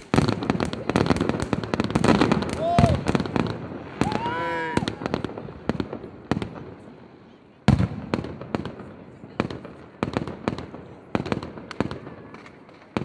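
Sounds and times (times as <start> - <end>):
fireworks cracks and bangs: 0.0 - 13.0
fireworks heavy boom: 0.0 - 13.0.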